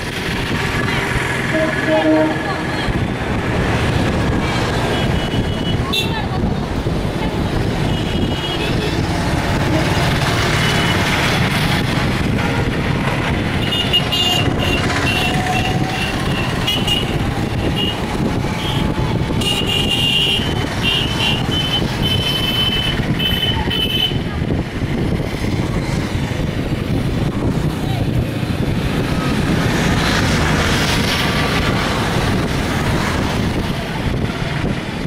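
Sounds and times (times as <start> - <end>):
road vehicles rumbling: 0.0 - 35.0.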